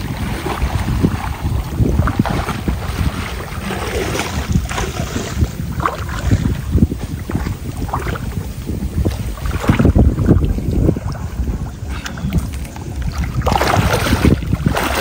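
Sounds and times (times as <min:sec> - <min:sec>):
water sloshing and splashing: 0:00.0 - 0:15.0
wind rumbling on microphone: 0:00.0 - 0:15.0.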